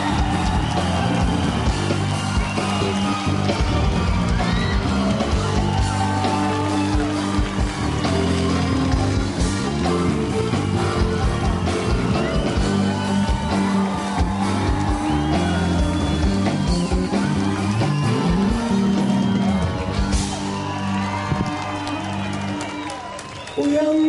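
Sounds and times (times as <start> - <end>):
drum beat: 0.0 - 22.0
bass line: 0.0 - 22.9.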